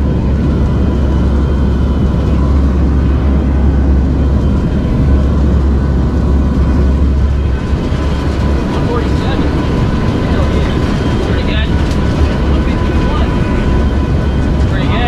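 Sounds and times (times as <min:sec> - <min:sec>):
faint steady whine: 0:00.0 - 0:15.0
turboprop engines droning in flight: 0:00.0 - 0:15.0.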